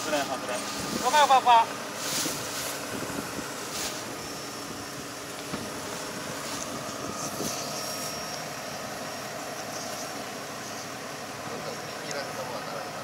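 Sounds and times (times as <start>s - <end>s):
machine engine droning: 0.0s - 13.0s.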